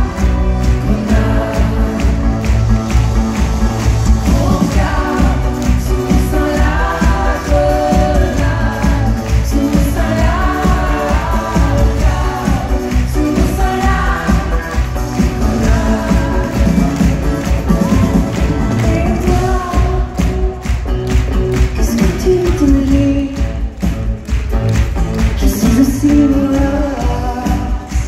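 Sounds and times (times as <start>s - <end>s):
woman singing: 0.0s - 2.5s, 4.0s - 20.6s, 21.7s - 23.8s, 25.4s - 28.0s
heavy bass: 0.0s - 28.0s
steady drum beat: 0.0s - 28.0s.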